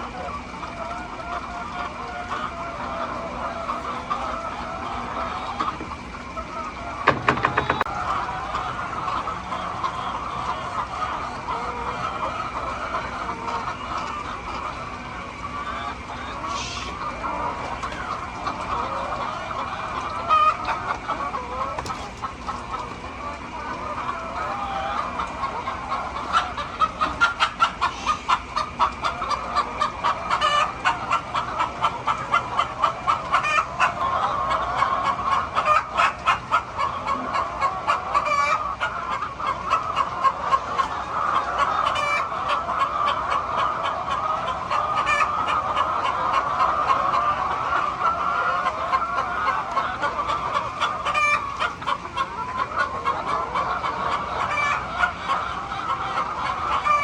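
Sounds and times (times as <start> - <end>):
hens clucking and cackling: 0.0 - 57.0
loud high hen calls: 0.0 - 57.0.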